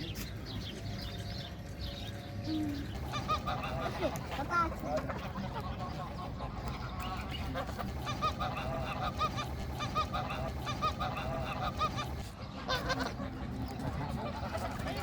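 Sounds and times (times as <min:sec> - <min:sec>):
geese honking: 0:00.6 - 0:15.0.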